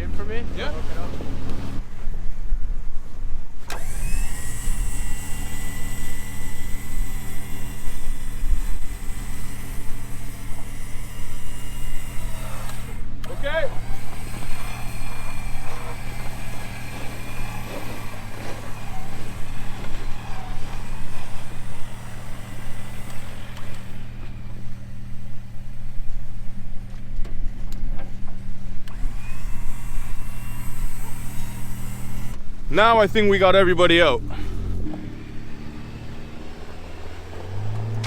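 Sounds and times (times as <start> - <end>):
faint thin whine: 3.6 - 38.0.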